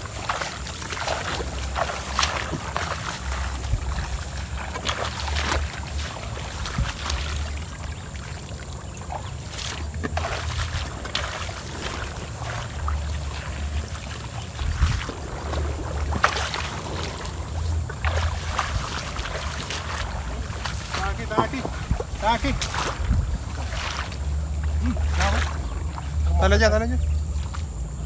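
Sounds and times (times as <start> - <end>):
splashing in shallow water: 0.0 - 28.0
wet grass rustling: 0.0 - 28.0
wind rumble on microphone: 0.0 - 28.0.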